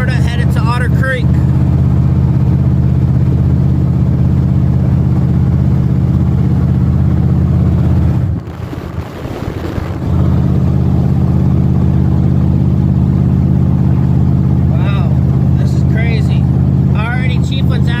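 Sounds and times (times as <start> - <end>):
road noise: 0.0 - 18.0
vehicle engine drone: 0.0 - 18.0.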